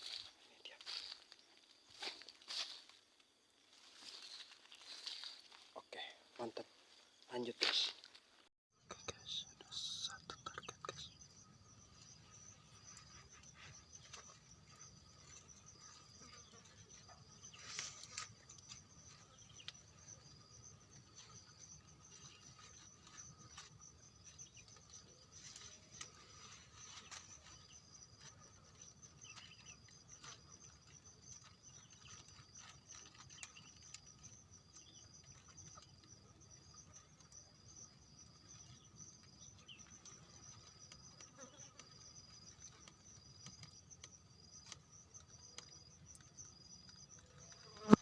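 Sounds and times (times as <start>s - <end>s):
insect chorus buzzing: 0.0s - 48.0s
pulsing insect trill: 8.8s - 48.0s.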